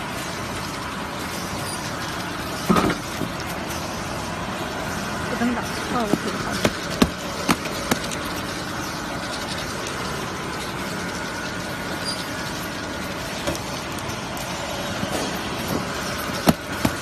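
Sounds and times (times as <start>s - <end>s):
packing machine whirring: 0.0s - 17.0s.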